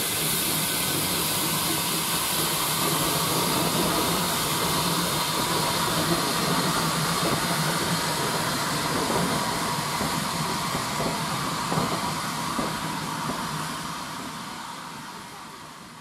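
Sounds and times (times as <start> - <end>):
steam train rumbling with hiss: 0.0 - 16.0.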